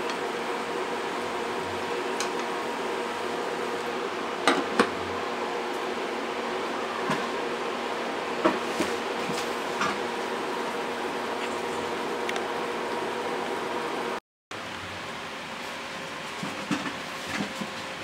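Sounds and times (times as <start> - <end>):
induction cooktop humming: 0.0 - 18.0.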